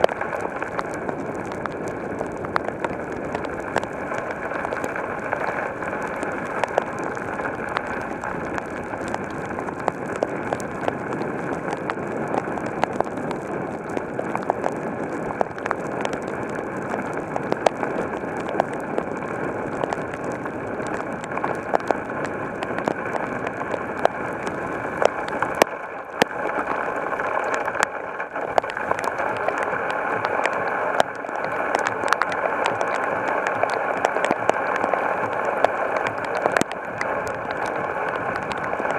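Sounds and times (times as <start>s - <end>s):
heavy rain pouring: 0.0s - 38.9s
raindrops ticking close by: 0.0s - 38.9s.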